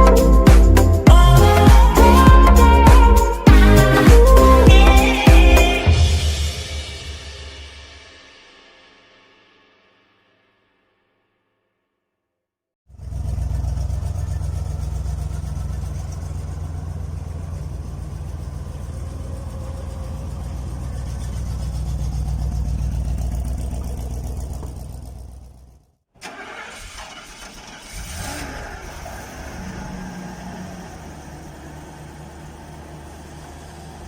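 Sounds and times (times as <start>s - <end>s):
car engine rumbling: 0.0s - 6.5s, 12.9s - 34.0s
rattly engine running: 0.0s - 6.5s, 12.9s - 34.0s.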